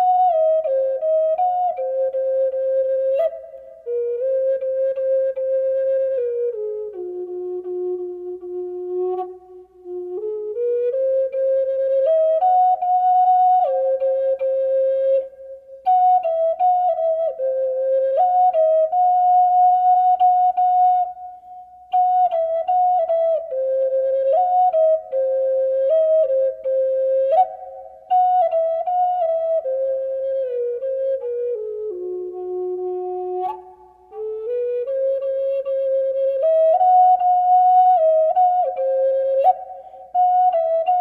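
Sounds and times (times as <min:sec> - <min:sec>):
solo flute melody: 0:00.0 - 0:41.0.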